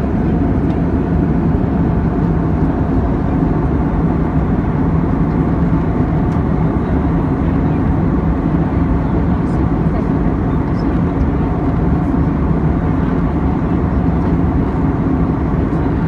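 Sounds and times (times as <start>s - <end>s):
jet engines and rushing air: 0.0s - 16.0s.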